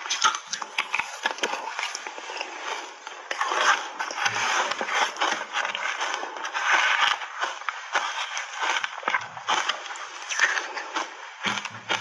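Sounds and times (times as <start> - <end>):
crunching and chewing shaved ice: 0.0 - 12.0.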